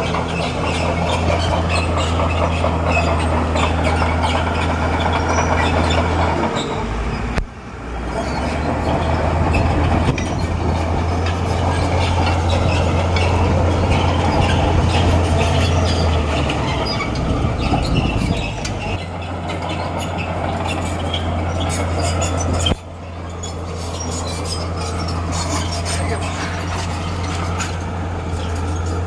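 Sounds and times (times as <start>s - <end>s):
bulldozer diesel engine: 0.0s - 29.0s
crawler tracks clanking and squealing: 0.0s - 29.0s.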